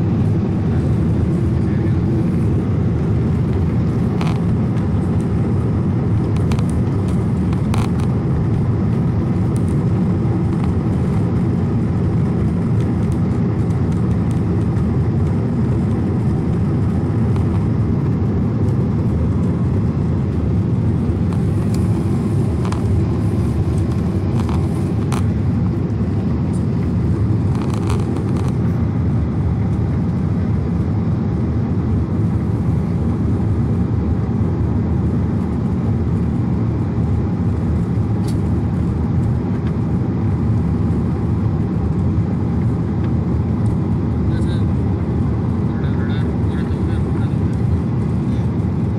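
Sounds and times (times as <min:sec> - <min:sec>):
jet airliner cabin rumble: 0:00.0 - 0:48.9.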